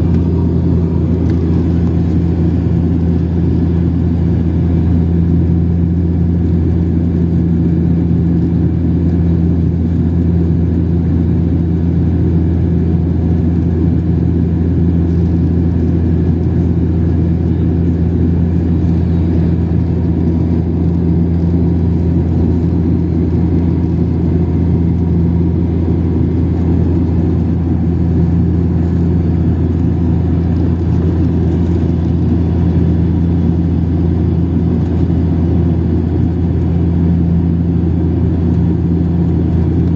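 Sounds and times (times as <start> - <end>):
airliner engines droning in cabin: 0.0 - 39.9.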